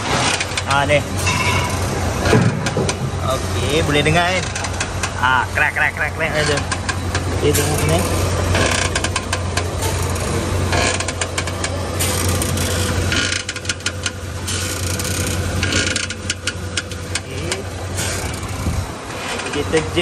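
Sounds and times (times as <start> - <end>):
car engine idling: 0.0 - 20.0
steering creaking and clicking: 0.0 - 20.0.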